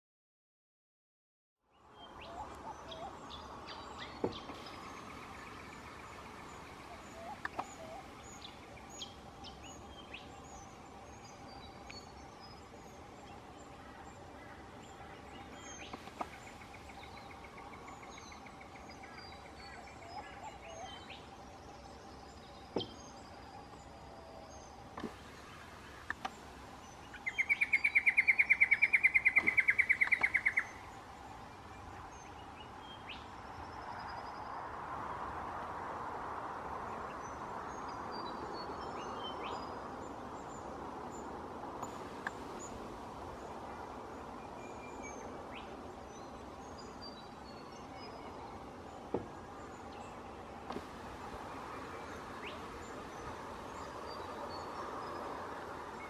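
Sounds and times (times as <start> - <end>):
birds chirping: 1.7 - 35.8, 36.4 - 56.0
soft steady rushing noise: 1.7 - 56.0.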